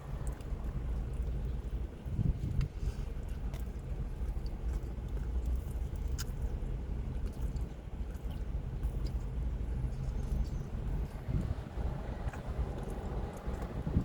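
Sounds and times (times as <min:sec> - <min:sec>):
steady low rumble: 0:00.0 - 0:14.0
person chewing: 0:00.2 - 0:14.0.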